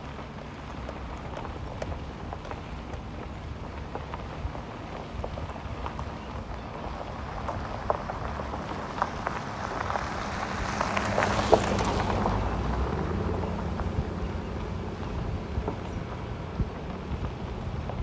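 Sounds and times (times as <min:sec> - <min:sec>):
truck engine hum: 0:00.0 - 0:18.0
tyres crackling on dirt road: 0:00.0 - 0:18.0
wind noise on microphone: 0:01.0 - 0:18.0.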